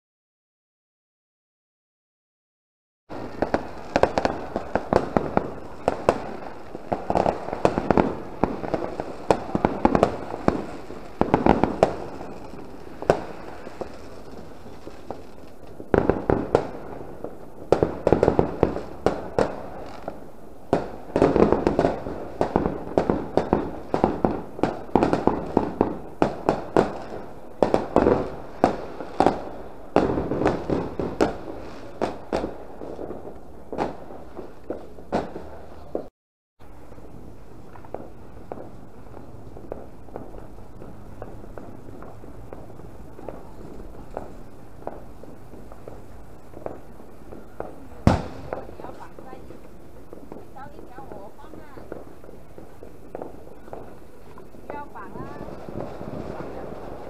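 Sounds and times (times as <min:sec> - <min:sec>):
firecrackers cracking: 0:03.1 - 0:57.0.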